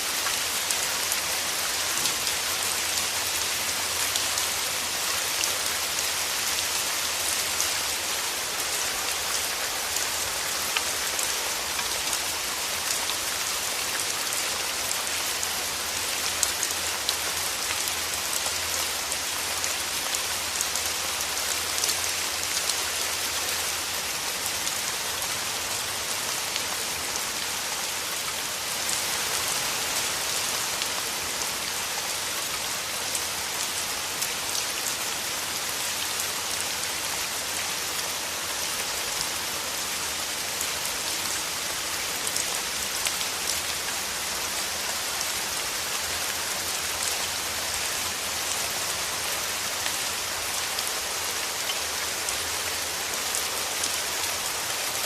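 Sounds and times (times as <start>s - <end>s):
rain falling through trees: 0.0s - 55.0s.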